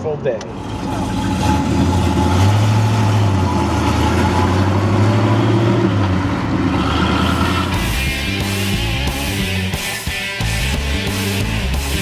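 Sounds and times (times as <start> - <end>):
deep car engine running: 0.4 - 9.8, 10.4 - 12.0.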